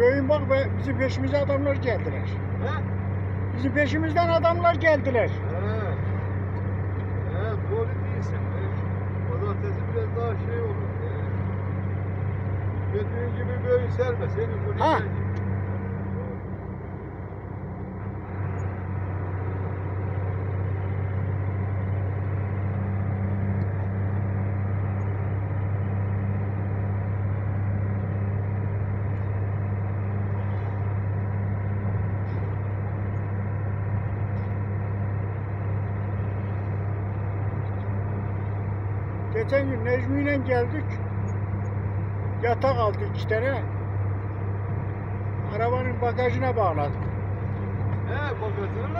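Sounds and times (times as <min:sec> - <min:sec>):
vehicle engine and road noise: 0:00.0 - 0:48.9.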